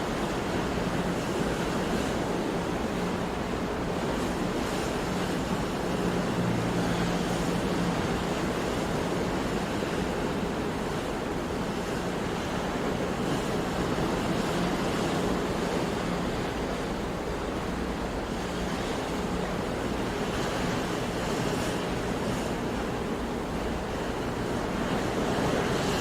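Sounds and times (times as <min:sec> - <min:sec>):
ocean waves washing on shore: 0:00.0 - 0:26.0.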